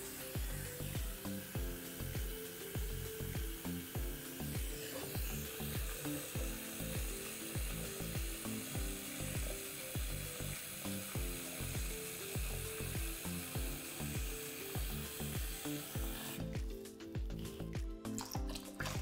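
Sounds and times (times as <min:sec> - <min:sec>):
background music with beat: 0:00.0 - 0:19.0
water running from tap: 0:00.0 - 0:19.0.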